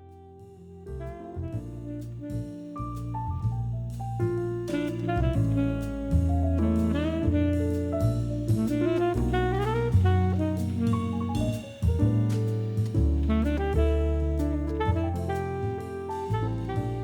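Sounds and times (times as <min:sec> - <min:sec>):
jazz music: 0:00.0 - 0:17.0.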